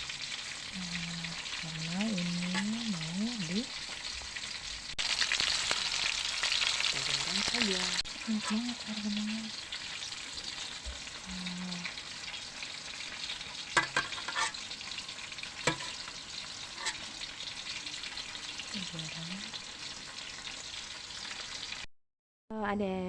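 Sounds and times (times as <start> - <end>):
food sizzling in oil: 0.0 - 21.9.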